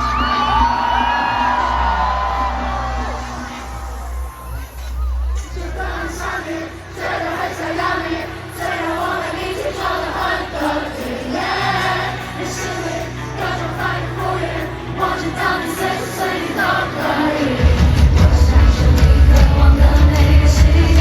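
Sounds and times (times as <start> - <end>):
live pop music with singing: 0.0 - 21.0.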